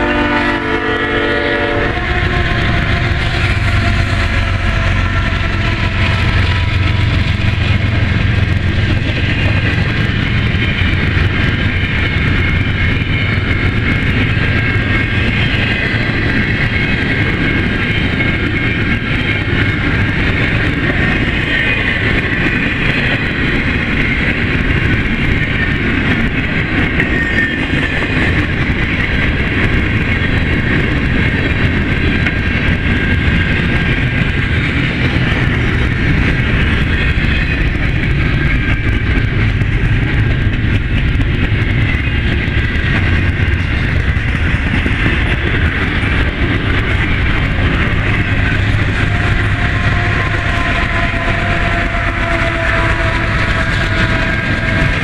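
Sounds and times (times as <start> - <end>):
diesel locomotive drone: 0.0 - 55.0
train wheels rumbling on rail: 0.0 - 55.0.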